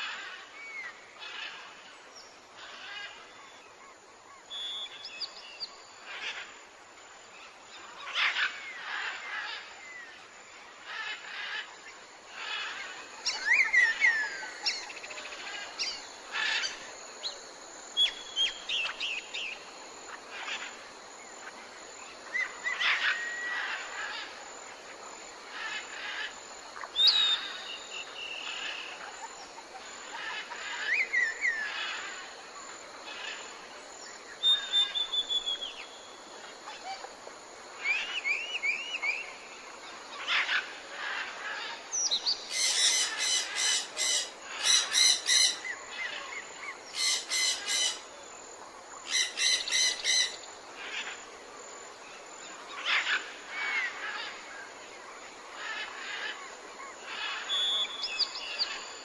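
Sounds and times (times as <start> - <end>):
harsh rattling bird calls: 0.0 - 6.5, 7.4 - 51.3, 52.0 - 54.9, 55.5 - 59.0
background hiss: 0.0 - 59.0.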